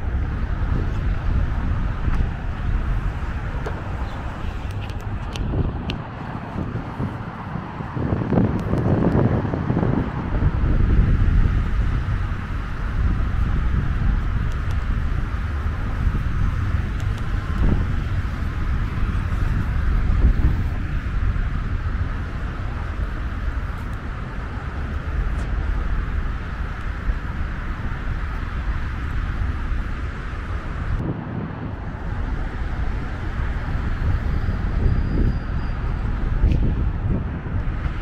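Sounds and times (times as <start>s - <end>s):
heavy highway traffic: 0.0s - 38.0s.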